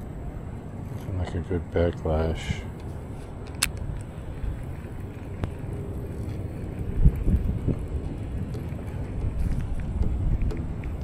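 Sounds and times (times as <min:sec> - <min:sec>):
wind buffeting microphone: 0:02.0 - 0:11.0.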